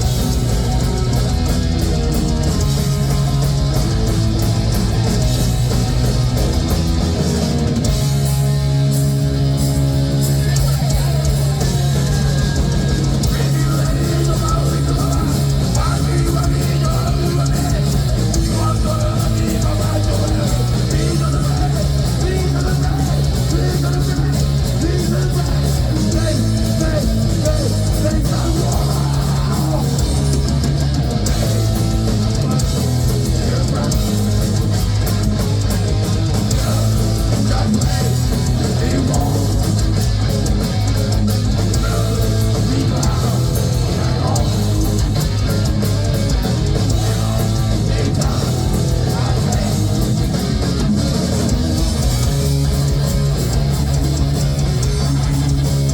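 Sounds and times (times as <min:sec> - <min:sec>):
heavy metal band playing live: 0:00.0 - 0:55.9.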